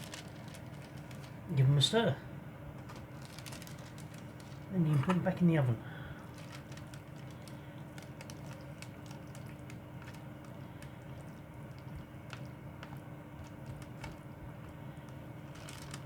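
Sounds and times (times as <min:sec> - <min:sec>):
noodles squishing being stirred: 0:00.0 - 0:01.8, 0:02.8 - 0:16.0.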